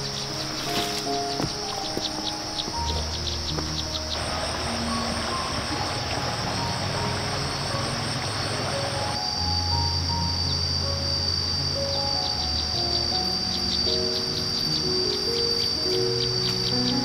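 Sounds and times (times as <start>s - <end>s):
insects buzzing: 0.0s - 17.0s
pulsing high insect chirp: 0.0s - 17.0s
soft background music: 0.0s - 17.0s.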